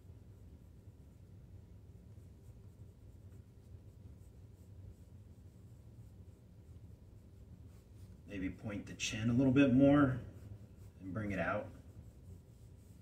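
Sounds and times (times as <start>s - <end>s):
low steady hum: 0.0s - 13.0s
pencil scratching on paper: 2.1s - 13.0s.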